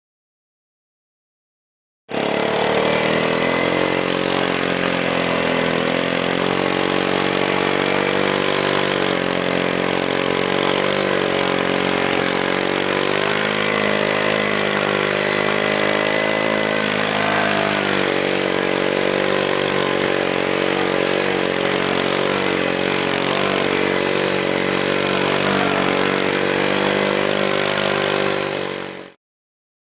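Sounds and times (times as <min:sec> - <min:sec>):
quad bike engine running: 0:02.1 - 0:29.2.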